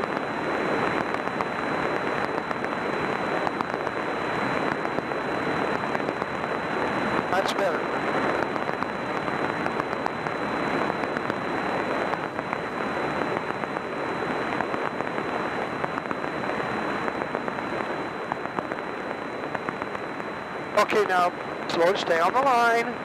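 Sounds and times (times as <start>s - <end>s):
aircraft engine inside cockpit: 0.0s - 23.0s
faint high whine: 0.0s - 23.0s.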